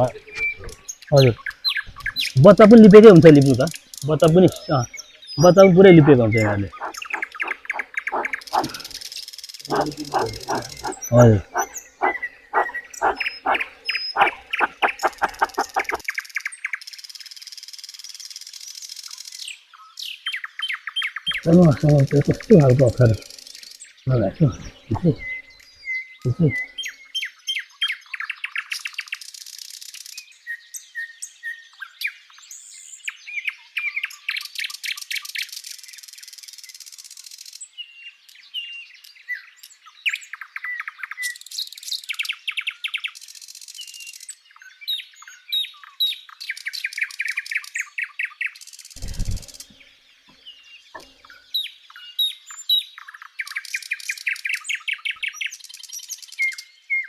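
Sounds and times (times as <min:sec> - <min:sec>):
birds singing: 0:00.0 - 0:16.8, 0:19.2 - 0:29.2, 0:37.6 - 0:57.0.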